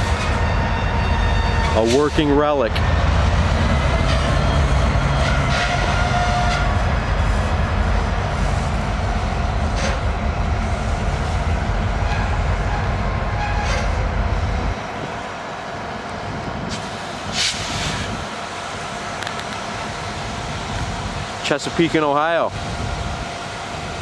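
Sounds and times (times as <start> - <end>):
train rumbling slowly: 0.0 - 24.0.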